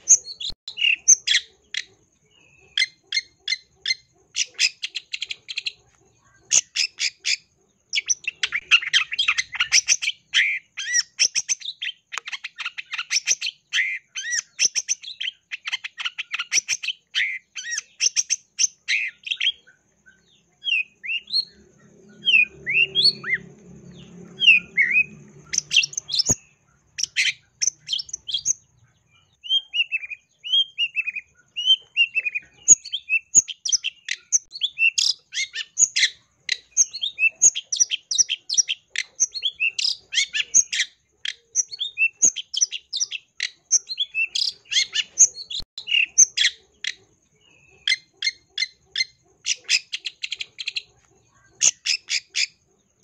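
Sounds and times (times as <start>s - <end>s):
bird singing varied song: 0.0s - 53.0s.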